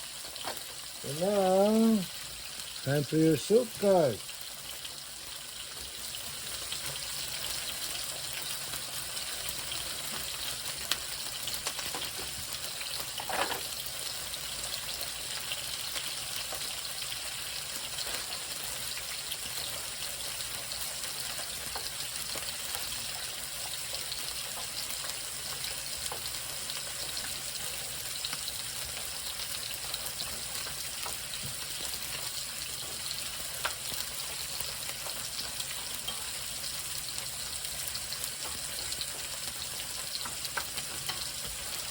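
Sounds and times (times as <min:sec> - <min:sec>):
chicken sizzling in a pan: 0:00.0 - 0:41.9.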